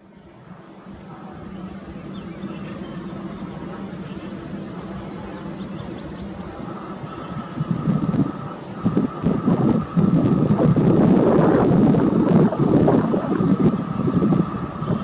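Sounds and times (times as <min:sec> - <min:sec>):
electric train equipment hum: 0:00.0 - 0:15.0.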